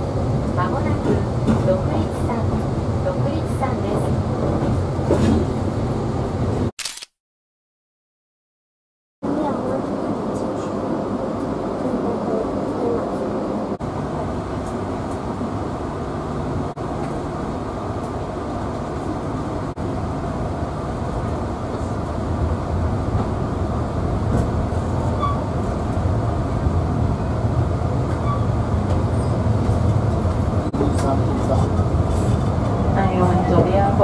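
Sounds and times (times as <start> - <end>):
train rumbling on track: 0.0 - 6.7, 9.2 - 34.0.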